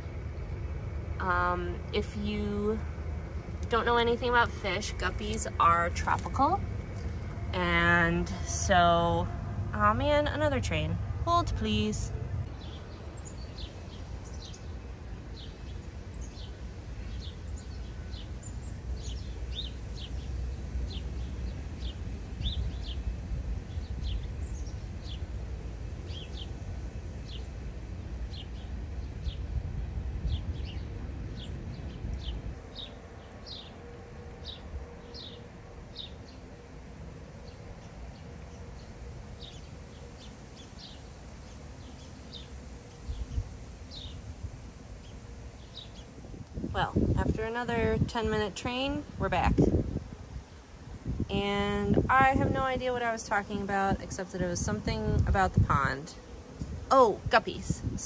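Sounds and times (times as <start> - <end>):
passing train rumble: 0.0 - 58.0.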